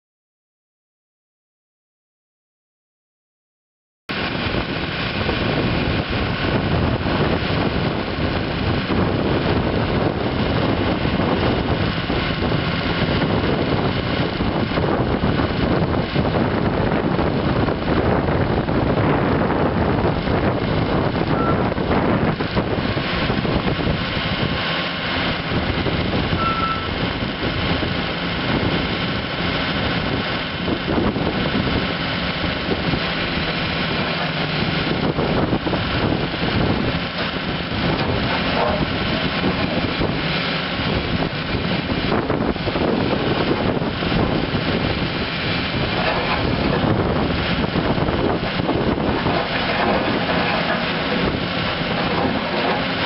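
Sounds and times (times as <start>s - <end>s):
diesel excavator engine running: 4.1s - 53.0s.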